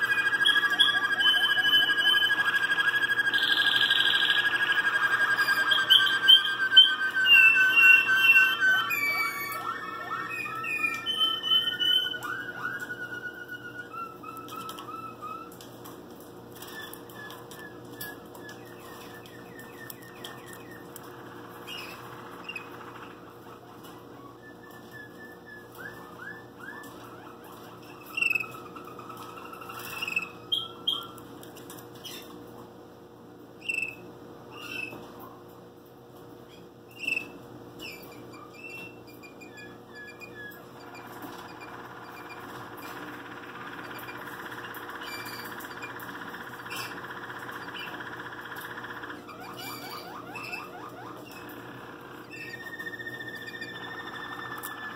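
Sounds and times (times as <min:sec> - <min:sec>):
canary singing trills and chirps: 0:00.0 - 0:15.9, 0:16.5 - 0:32.4, 0:33.6 - 0:35.0, 0:36.4 - 0:54.9.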